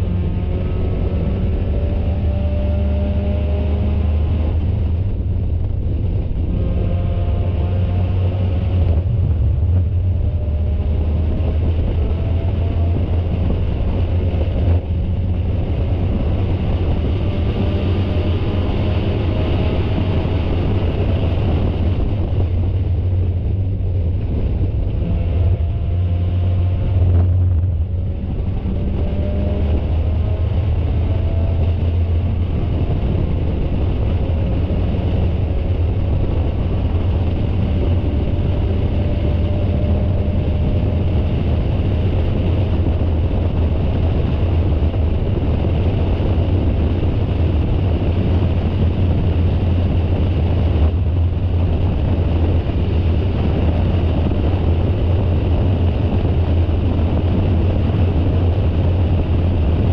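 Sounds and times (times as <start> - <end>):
wind noise: 0.0 - 59.9.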